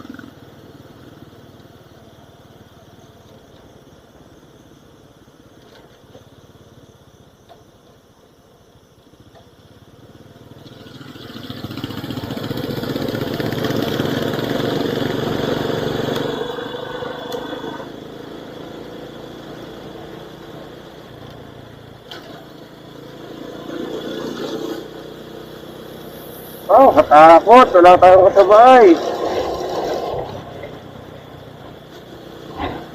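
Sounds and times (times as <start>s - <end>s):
vehicle engine: 0.0s - 7.2s, 9.0s - 32.9s
road noise: 0.0s - 32.9s.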